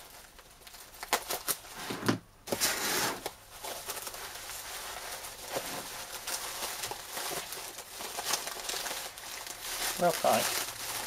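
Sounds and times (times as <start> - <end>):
bubble wrap rustling and crinkling: 0.0 - 11.0.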